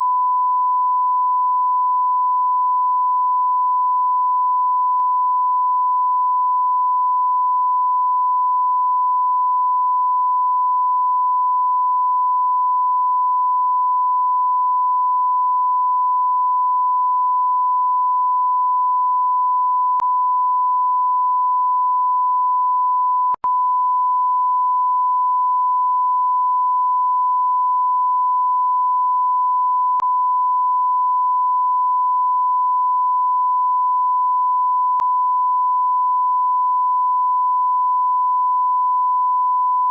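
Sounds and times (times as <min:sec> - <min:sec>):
censor bleep tone: 0:00.0 - 0:39.9.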